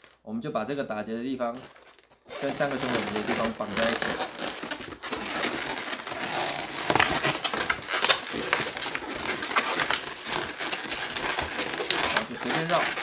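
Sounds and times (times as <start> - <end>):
balloons squeaking and rubbing: 0.0 - 13.0.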